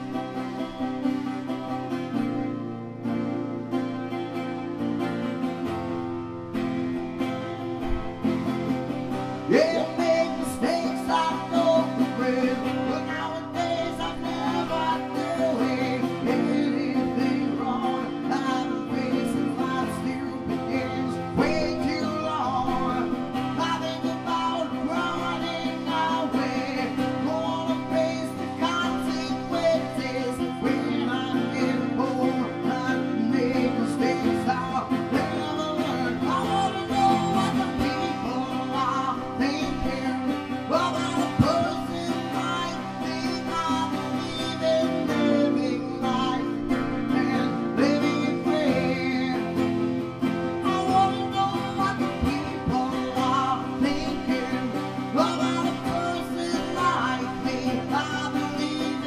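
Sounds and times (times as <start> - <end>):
acoustic guitar strumming: 0.0 - 59.0
man singing: 7.0 - 59.0.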